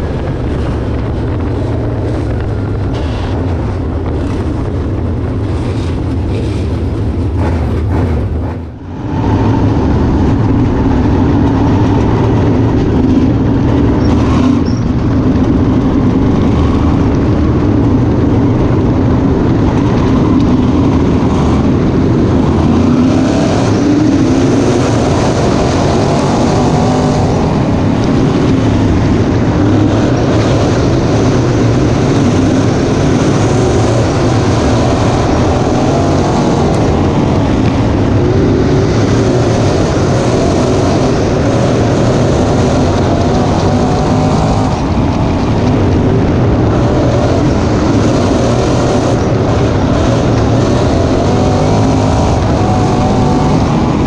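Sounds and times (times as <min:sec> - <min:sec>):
race car engines racing: 0:00.0 - 0:54.0.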